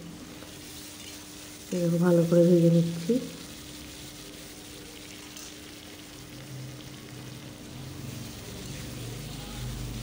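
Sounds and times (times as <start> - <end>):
paneer sizzling in hot oil: 0.0 - 10.0.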